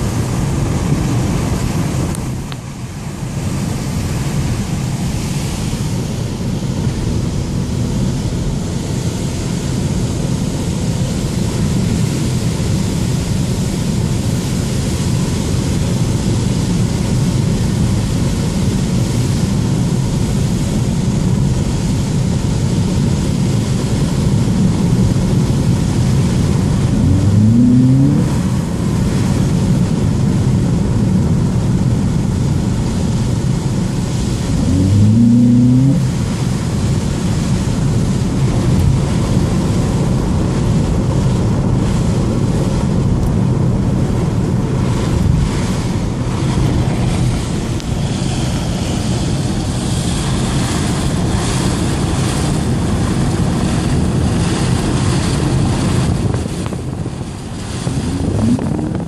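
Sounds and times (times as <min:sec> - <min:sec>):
car engine hum: 0:00.0 - 0:59.0
tyre and road noise: 0:00.0 - 0:59.0.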